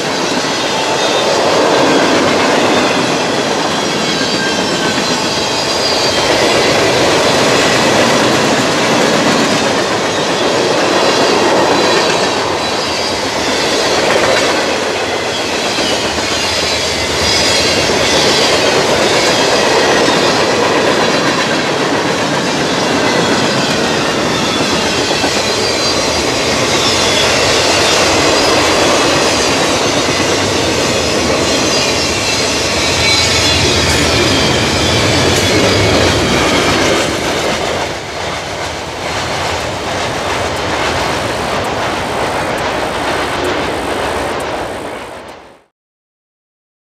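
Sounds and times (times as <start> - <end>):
train wheels rumbling on rails: 0.0 - 45.7.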